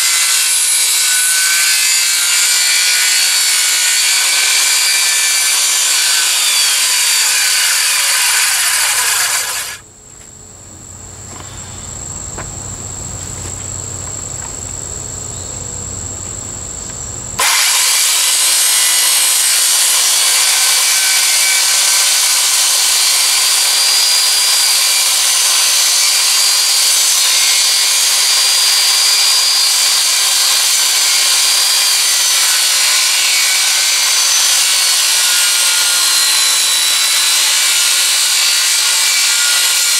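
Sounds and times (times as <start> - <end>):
circular saw cutting wood: 0.0 - 9.8, 17.4 - 39.9.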